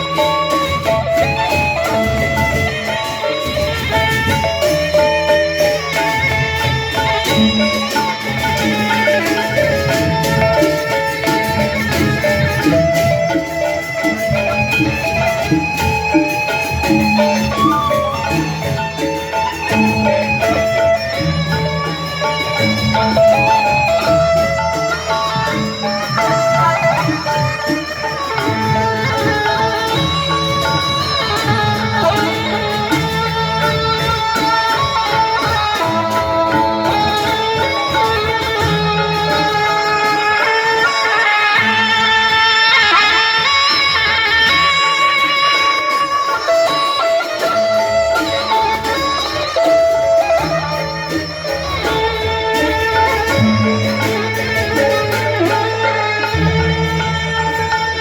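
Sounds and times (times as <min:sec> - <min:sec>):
melody instruments playing: 0:00.0 - 0:58.0
steady drum beat: 0:00.0 - 0:58.0.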